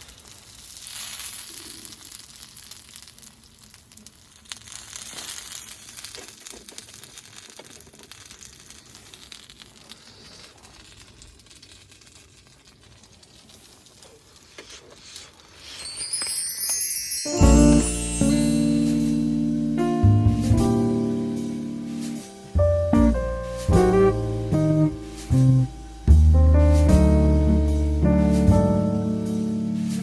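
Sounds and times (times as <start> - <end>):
faint crinkling and crackling: 0.0 - 30.0.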